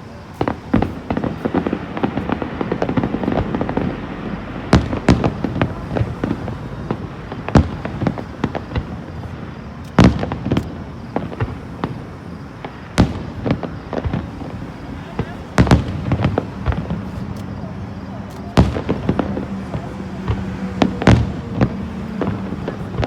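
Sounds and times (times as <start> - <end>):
fireworks crackling bursts: 0.0 - 23.0.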